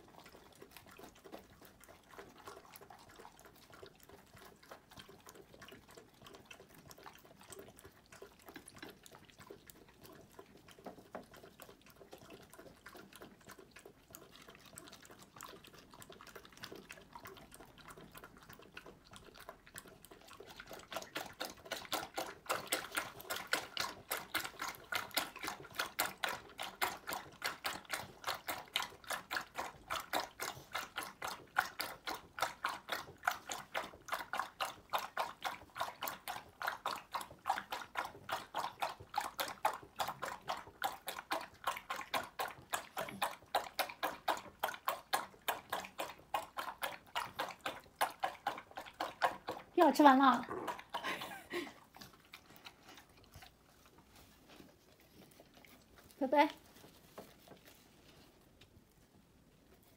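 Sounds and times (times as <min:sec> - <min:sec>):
dog eating: 0:00.0 - 0:59.9
dog lapping milk: 0:00.0 - 0:59.9.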